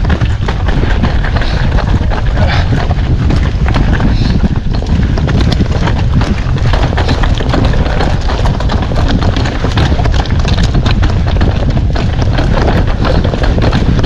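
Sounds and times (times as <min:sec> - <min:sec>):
mountain bike clattering over rocks: 0:00.0 - 0:14.0
wind rumble on microphone: 0:00.0 - 0:14.0.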